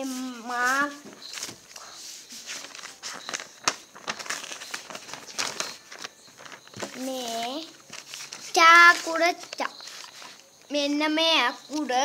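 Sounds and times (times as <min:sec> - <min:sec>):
paper rustling and crinkling: 0:00.0 - 0:10.6.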